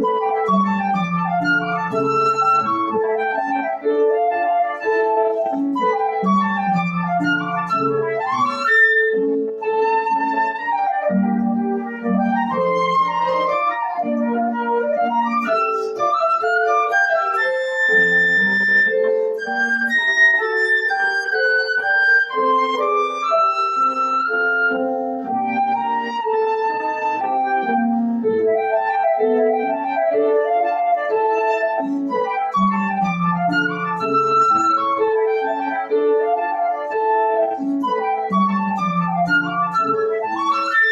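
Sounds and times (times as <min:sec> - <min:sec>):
flute melody: 0:00.0 - 0:40.9
piano accompaniment: 0:00.0 - 0:40.9.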